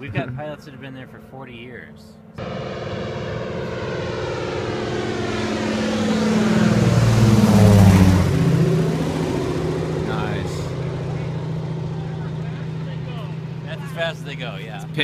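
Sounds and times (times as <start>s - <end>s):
propeller plane flying overhead: 0.0s - 15.0s.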